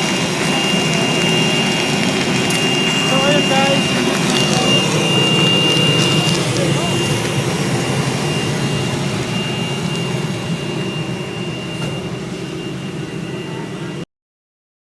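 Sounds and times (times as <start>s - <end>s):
welding arc noise with whine: 0.0s - 14.0s.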